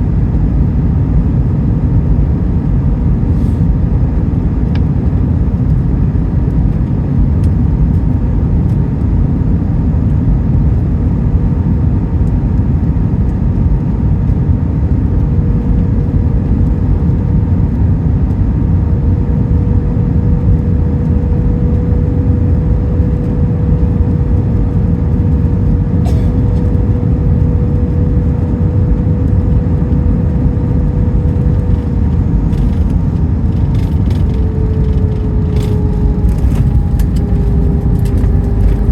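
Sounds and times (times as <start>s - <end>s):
airplane cabin rumble: 0.0s - 38.9s
faint engine whine: 0.0s - 38.9s.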